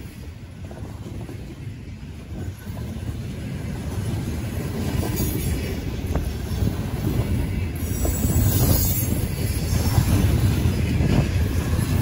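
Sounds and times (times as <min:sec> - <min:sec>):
train rumbling along rails: 0:00.0 - 0:12.0.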